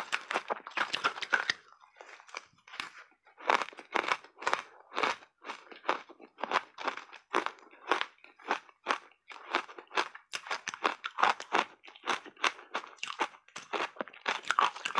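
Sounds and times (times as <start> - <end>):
person crunching shaved ice: 0.0 - 14.9.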